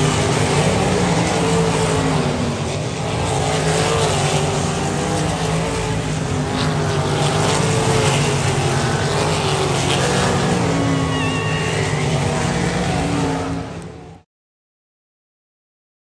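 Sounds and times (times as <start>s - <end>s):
race car engines running hard: 0.0s - 14.2s.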